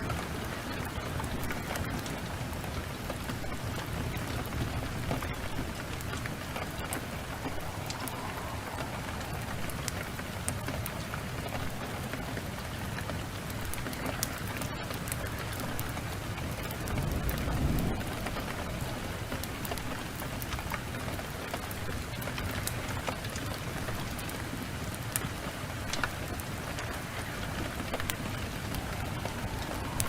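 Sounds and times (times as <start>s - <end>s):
thunder rumble: 0.0s - 24.5s, 25.9s - 30.0s
heavy rain: 0.0s - 30.0s
wood fire crackling: 0.0s - 30.0s.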